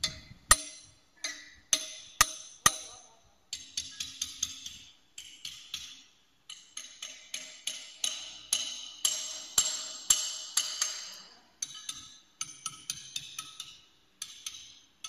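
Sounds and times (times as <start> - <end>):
ringing metal taps: 0.0 - 15.0.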